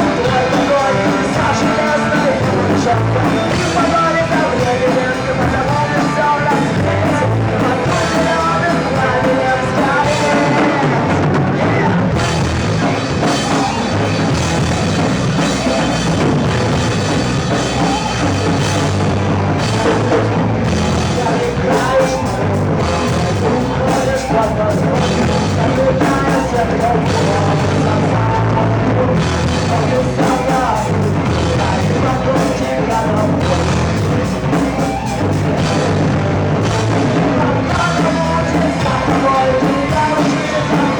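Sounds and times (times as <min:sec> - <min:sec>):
drum kit: 0:00.0 - 0:40.9
rock band playing live: 0:00.0 - 0:40.9.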